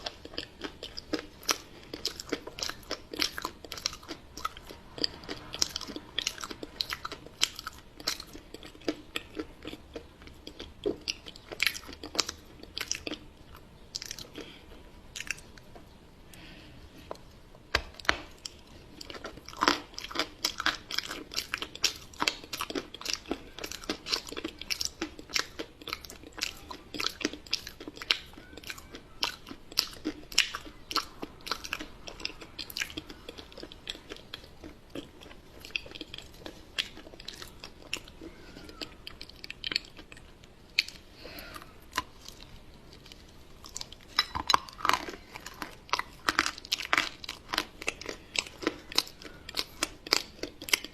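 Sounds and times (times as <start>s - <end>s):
crunchy chewing: 0.0s - 17.2s, 18.0s - 50.9s.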